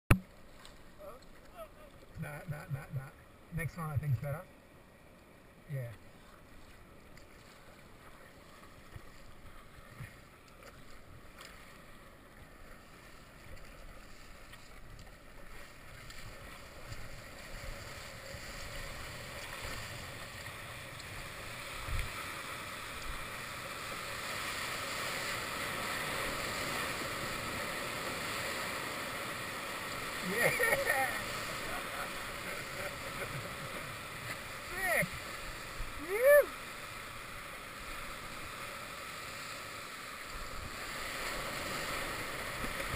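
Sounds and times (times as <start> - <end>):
water rushing past paddleboards: 0.1 - 42.9.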